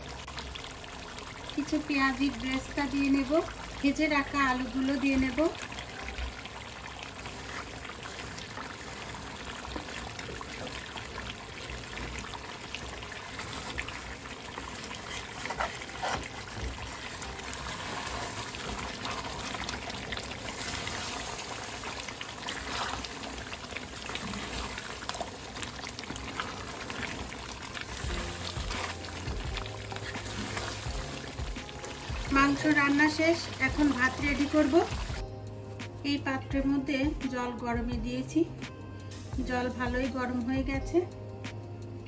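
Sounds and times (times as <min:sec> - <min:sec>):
meat bubbling in a pot: 0:00.0 - 0:36.8.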